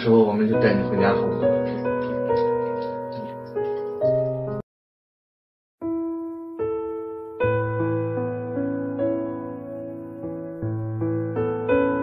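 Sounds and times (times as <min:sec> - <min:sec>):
soft piano music: 0:00.0 - 0:04.6, 0:05.8 - 0:12.0.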